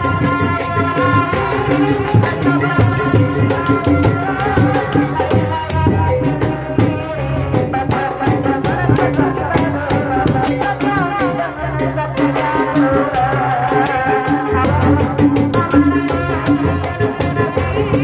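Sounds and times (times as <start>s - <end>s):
drums: 0.0s - 18.0s
rattle shaking fast beat: 0.0s - 18.0s.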